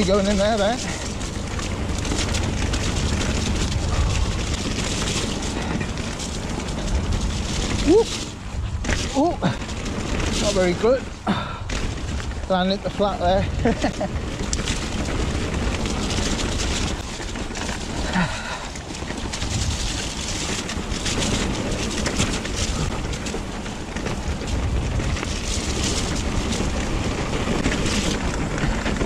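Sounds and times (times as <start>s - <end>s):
bike rattling and knocking: 0.0s - 29.0s
wind buffeting microphone: 0.0s - 29.0s.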